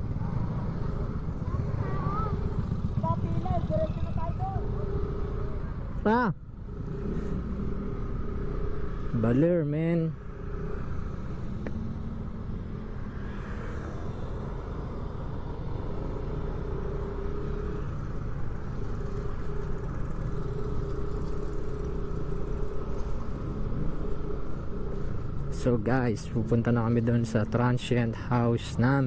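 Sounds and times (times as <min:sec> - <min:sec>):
motor scooter engine drone: 0:00.0 - 0:09.4, 0:10.2 - 0:29.0
road rumble: 0:00.0 - 0:29.0.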